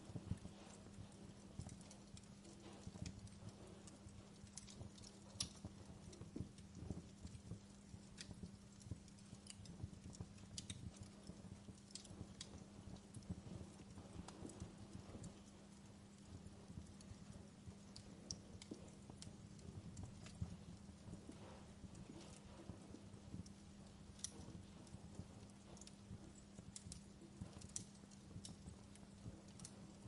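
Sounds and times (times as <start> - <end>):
wood fire crackling softly: 0.0 - 30.0.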